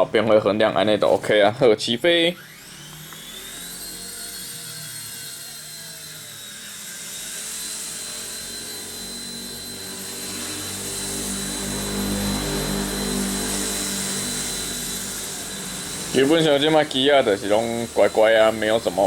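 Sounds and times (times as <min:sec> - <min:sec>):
toy helicopter motor whine: 0:00.0 - 0:19.0.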